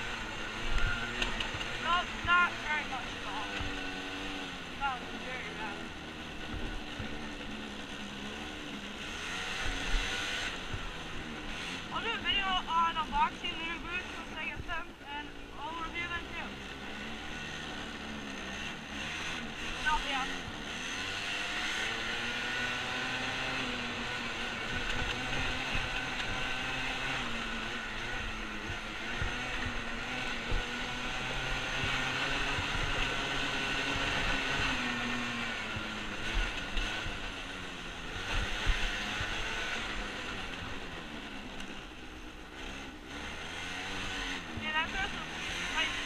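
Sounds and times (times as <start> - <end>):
small off-road engine revving: 0.0 - 46.0.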